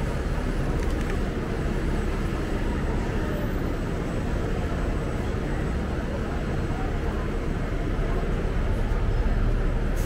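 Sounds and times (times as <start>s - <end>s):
bus engine running close by: 0.0s - 10.0s
rumble of street traffic: 0.0s - 10.0s.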